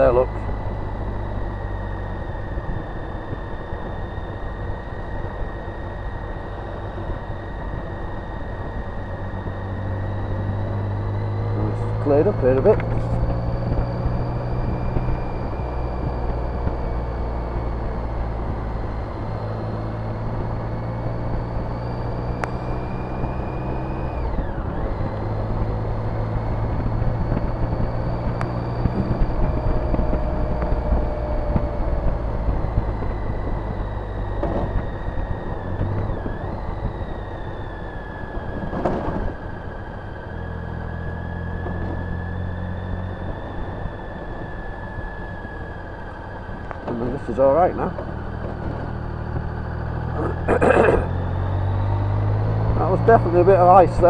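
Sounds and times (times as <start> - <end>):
high whine: 0.0 - 54.0
motorcycle engine running: 0.0 - 54.0.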